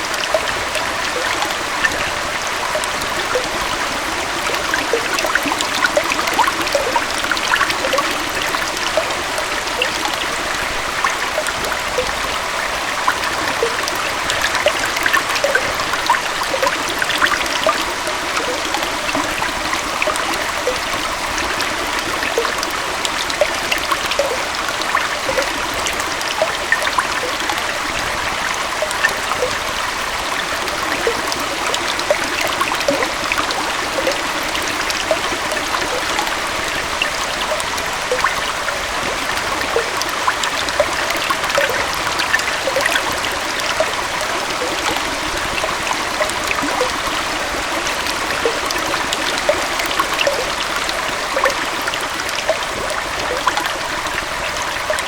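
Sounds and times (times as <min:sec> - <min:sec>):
water droplets trickling: 0:00.0 - 0:54.0
stream water rushing: 0:00.0 - 0:55.0.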